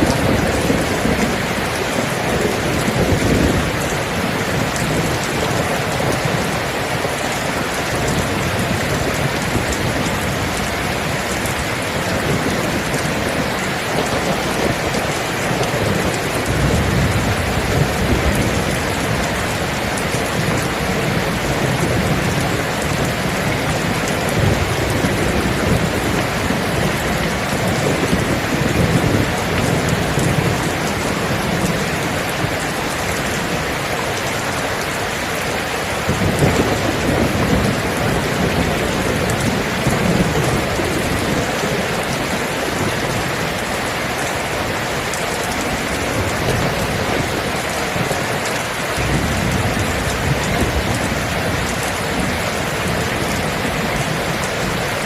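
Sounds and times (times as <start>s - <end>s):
heavy rain: 0.0s - 55.0s
low thunder rumbling: 0.0s - 55.0s.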